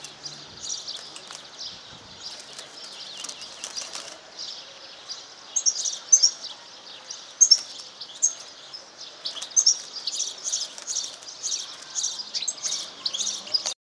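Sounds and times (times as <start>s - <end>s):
songbird twittering and trilling: 0.0s - 13.8s.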